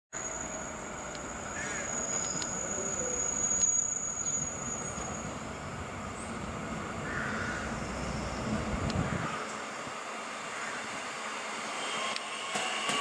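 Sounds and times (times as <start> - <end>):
train wheels rumbling on rail: 0.2 - 13.0.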